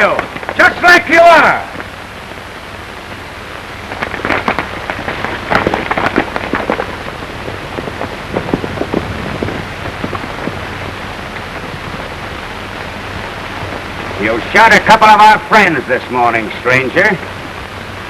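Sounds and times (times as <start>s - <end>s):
film soundtrack hiss: 0.0s - 18.0s.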